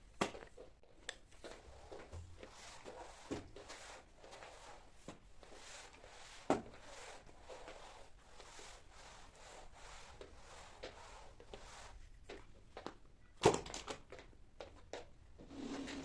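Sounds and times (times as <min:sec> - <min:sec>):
rubbing and rustling while cleaning: 0:00.0 - 0:13.0, 0:15.0 - 0:16.0.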